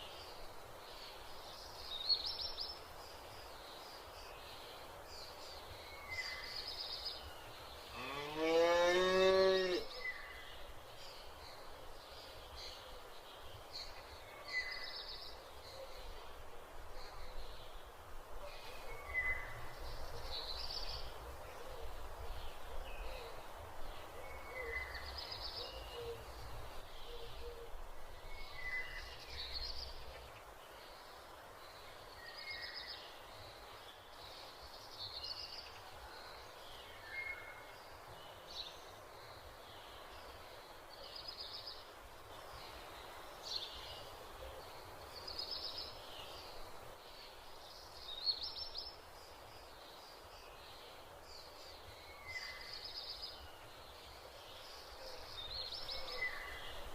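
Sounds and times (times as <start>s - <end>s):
steady background hiss: 0.0s - 56.9s.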